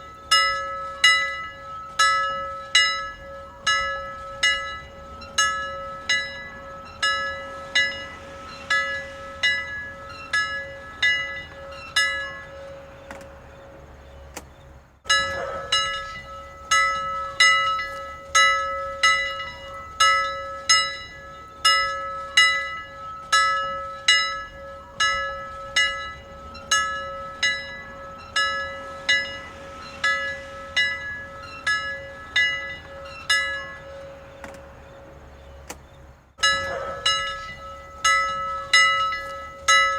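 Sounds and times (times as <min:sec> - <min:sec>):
bell striking: 0:00.0 - 0:12.9, 0:15.1 - 0:34.3, 0:36.4 - 0:39.9.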